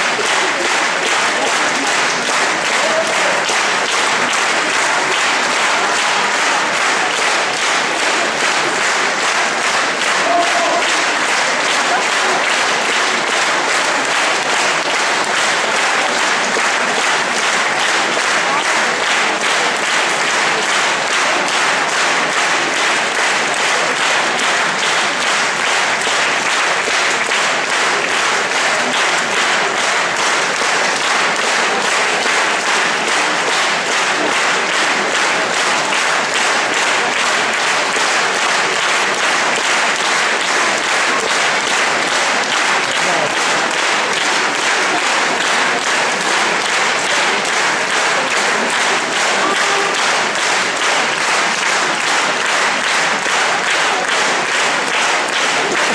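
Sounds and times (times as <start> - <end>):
audience applauding: 0.0 - 55.9.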